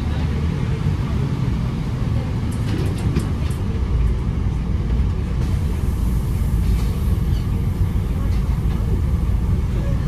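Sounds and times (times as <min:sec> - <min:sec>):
bus interior rumble: 0:00.0 - 0:10.0.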